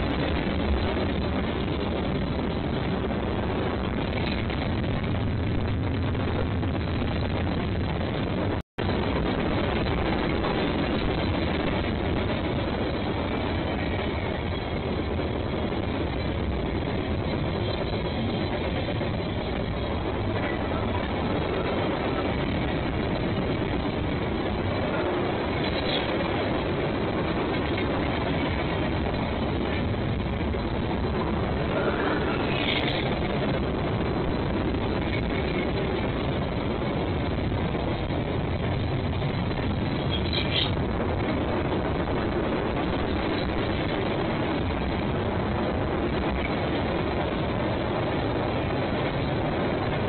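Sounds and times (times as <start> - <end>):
freight train rumbling: 0.0 - 50.0.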